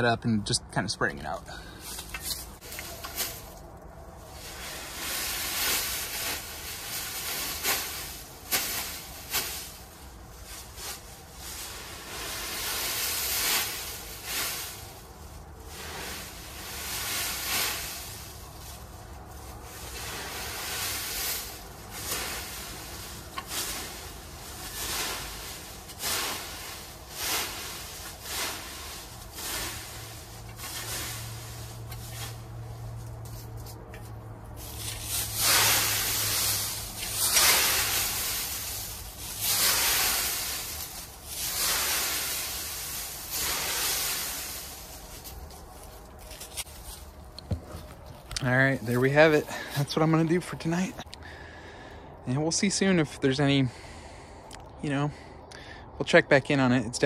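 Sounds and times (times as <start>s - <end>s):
rustling of dry leaves: 1.1s - 53.2s.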